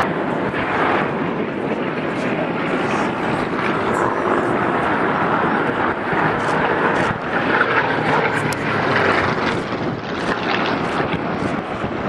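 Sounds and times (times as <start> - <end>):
propeller planes droning past: 0.0 - 12.0.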